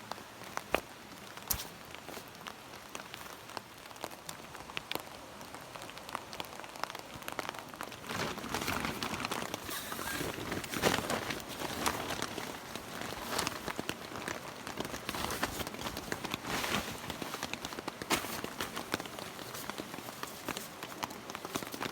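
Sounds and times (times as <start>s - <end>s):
steady rain: 0.0s - 21.9s
raindrops tapping: 0.1s - 21.9s.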